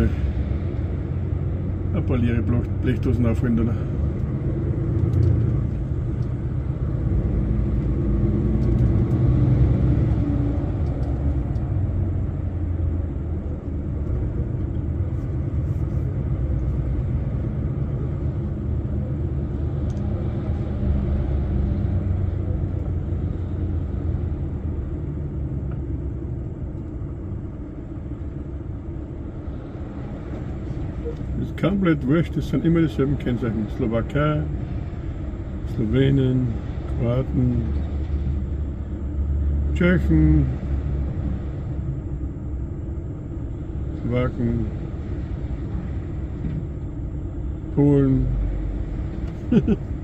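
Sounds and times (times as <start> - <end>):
heavy truck driving: 0.0 - 50.0.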